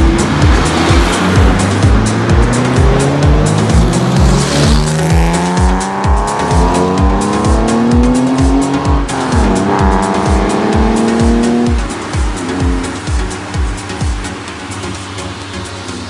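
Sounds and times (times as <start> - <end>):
rising pitched tone: 0.0 - 14.1
kick drum: 0.0 - 14.2
electronic dance music: 0.0 - 16.0
ticking hi-hats: 0.0 - 16.0.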